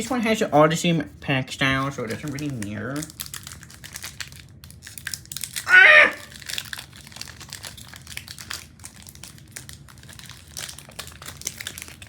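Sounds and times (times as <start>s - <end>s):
foil wrapper crinkling: 1.5s - 12.0s.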